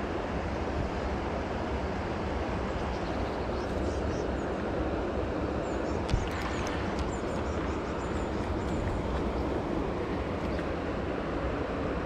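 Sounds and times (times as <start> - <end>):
river flowing: 0.0 - 12.0.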